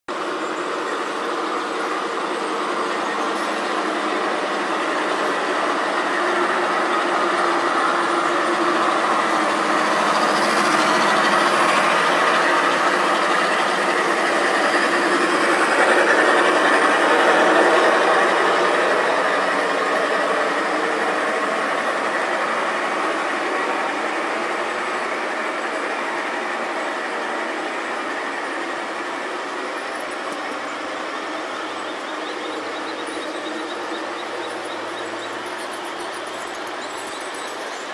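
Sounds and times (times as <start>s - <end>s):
model train wheels rumbling on rails: 0.1s - 37.9s.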